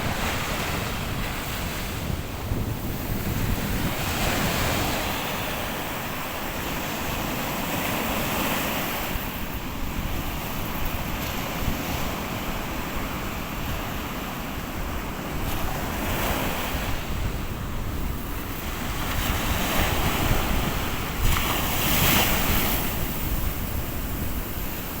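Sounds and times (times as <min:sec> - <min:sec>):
surf washing onto beach: 0:00.0 - 0:25.0
wind rumbling on microphone: 0:00.0 - 0:25.0.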